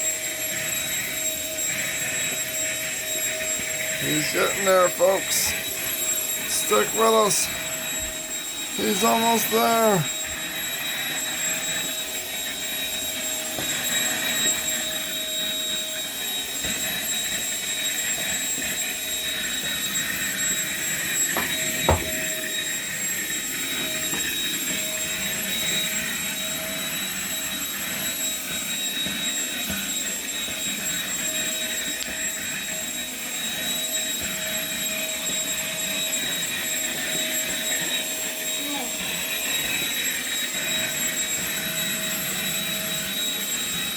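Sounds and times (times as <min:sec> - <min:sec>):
vacuum cleaner whining: 0:00.0 - 0:43.9.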